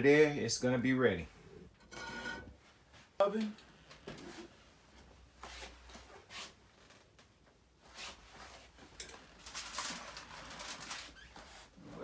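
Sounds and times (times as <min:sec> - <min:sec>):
soft rustles and scrapes: 0:01.2 - 0:12.0.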